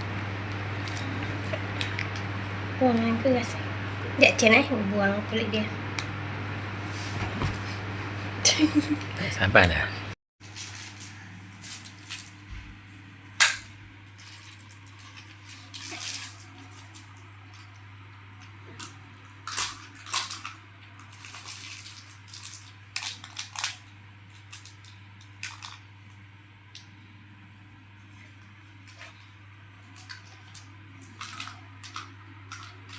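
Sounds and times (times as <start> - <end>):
low steady hum: 0.0 - 32.9.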